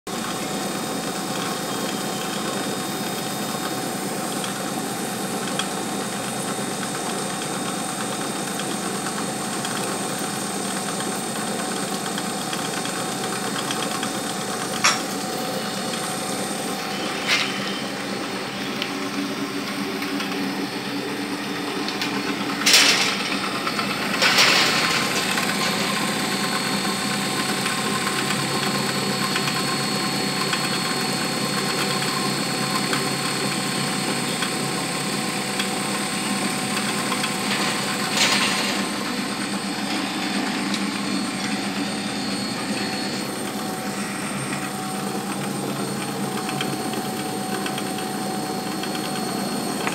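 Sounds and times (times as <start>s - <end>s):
milling machine hum and whine: 0.1s - 49.9s.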